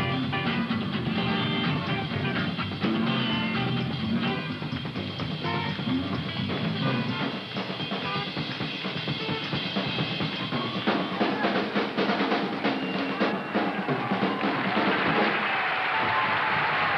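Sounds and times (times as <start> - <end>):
funk-rock band playing: 0.0 - 15.4.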